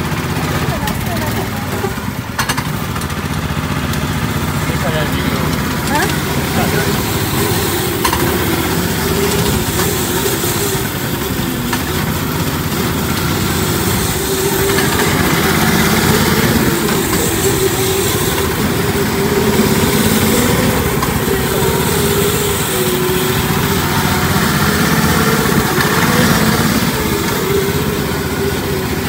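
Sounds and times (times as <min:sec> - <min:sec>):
off-road buggy engine running: 0:00.0 - 0:29.0.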